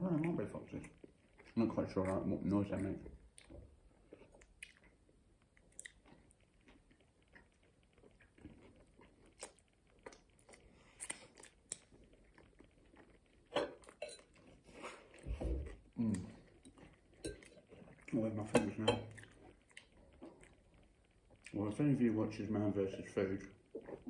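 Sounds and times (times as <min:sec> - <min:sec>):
chewing and biting: 0:00.1 - 0:21.8.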